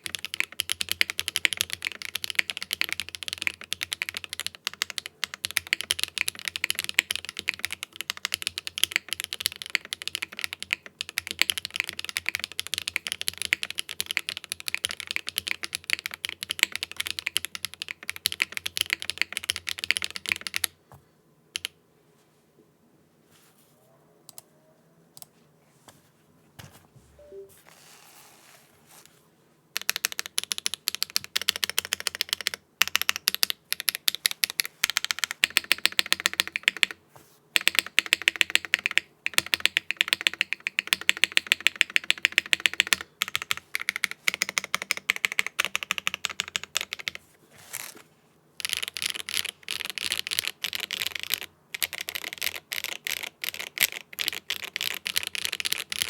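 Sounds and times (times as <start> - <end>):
fast keystrokes: 0.0 - 20.7, 21.6 - 21.8, 29.8 - 37.0, 37.6 - 47.2, 48.6 - 56.0
mechanical keyboard typing: 0.0 - 20.7, 21.6 - 21.8, 29.8 - 37.0, 37.6 - 47.2, 48.6 - 56.0.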